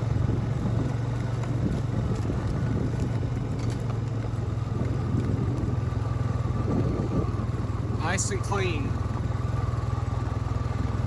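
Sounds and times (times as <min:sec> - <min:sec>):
atv engine low drone: 0:00.0 - 0:11.0.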